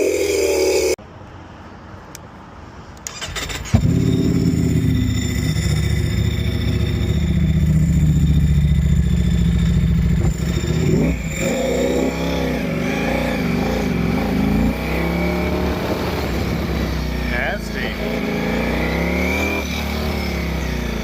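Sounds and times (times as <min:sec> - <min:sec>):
motorcycle engine revving: 0:03.1 - 0:21.0.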